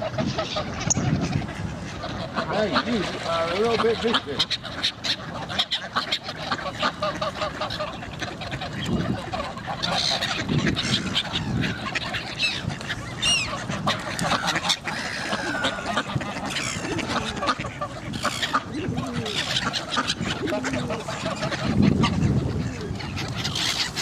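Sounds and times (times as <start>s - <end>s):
ducks quacking: 0.0s - 24.0s
geese honking: 0.0s - 24.0s.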